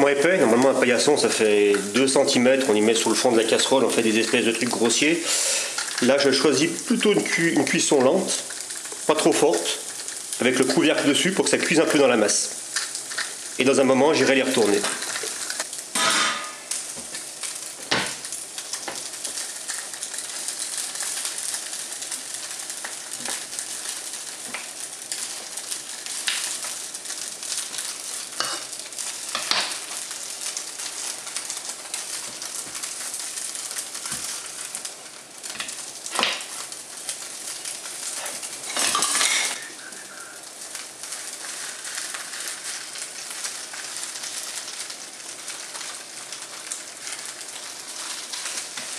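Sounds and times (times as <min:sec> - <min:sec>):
potato sizzling in a frying pan: 0:00.0 - 0:48.9.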